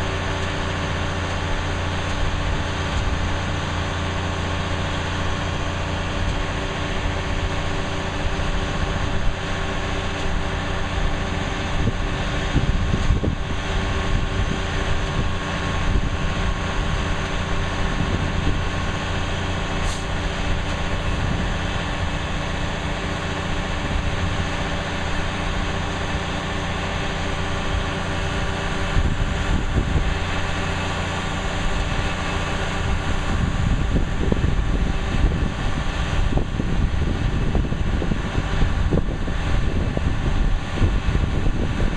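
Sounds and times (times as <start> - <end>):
crane engine droning: 0.0 - 41.9.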